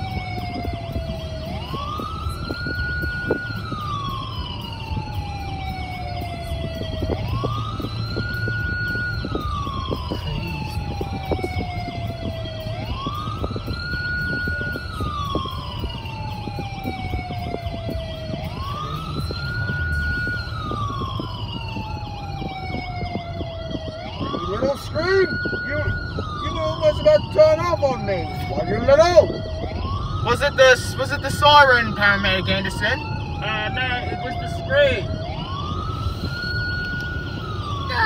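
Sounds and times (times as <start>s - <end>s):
car cabin road rumble: 0.0s - 38.0s
emergency siren wailing: 0.0s - 38.0s.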